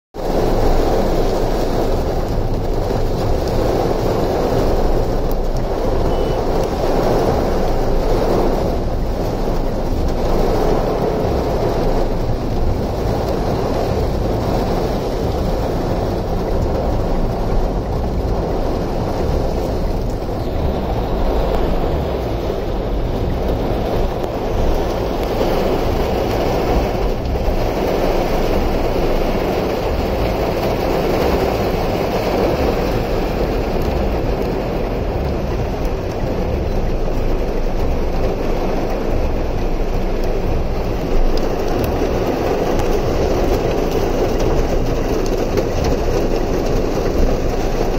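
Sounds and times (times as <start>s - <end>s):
heavy rain: 0.1s - 47.9s
wind: 0.1s - 47.9s
floodwater churning: 0.2s - 47.9s.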